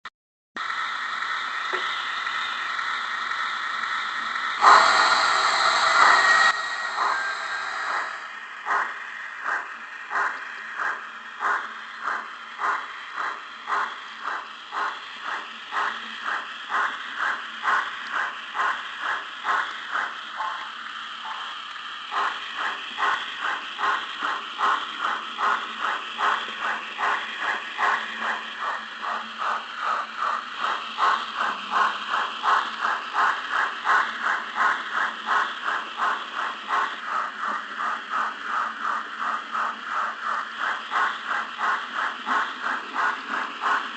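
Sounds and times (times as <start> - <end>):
steam hissing: 0.6 - 43.9
locomotive exhaust chuffs: 0.9 - 43.9.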